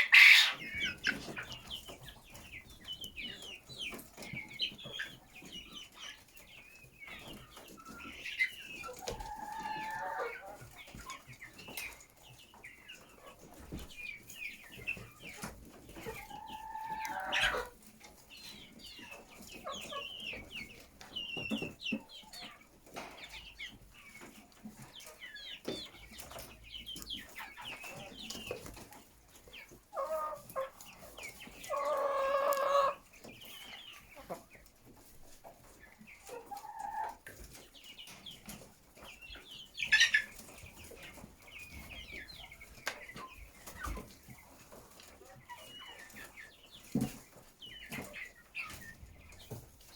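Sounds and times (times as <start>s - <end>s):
chickens clucking: 0.0s - 49.9s.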